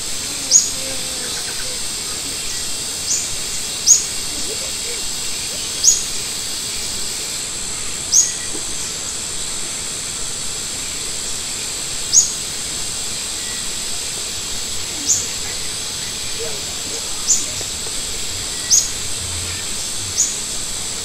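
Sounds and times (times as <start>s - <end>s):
steady high-pitched hiss: 0.0s - 21.0s.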